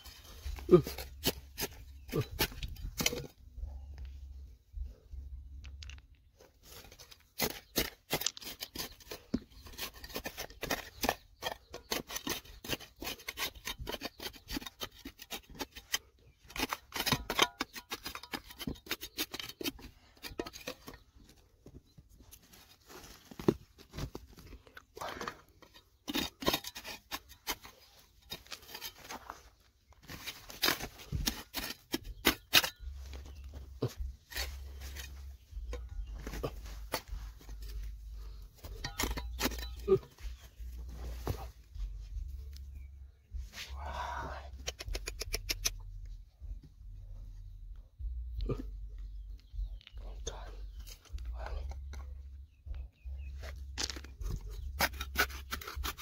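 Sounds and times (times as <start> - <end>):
digging in stony ground: 0.0 - 56.0.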